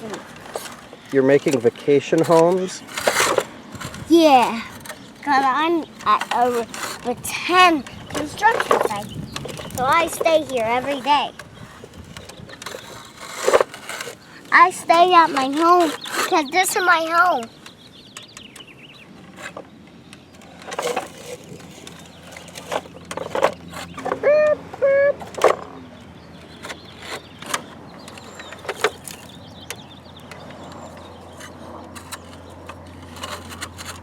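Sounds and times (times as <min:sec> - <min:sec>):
plastic toy trucks knocking and scraping: 0:00.0 - 0:34.0.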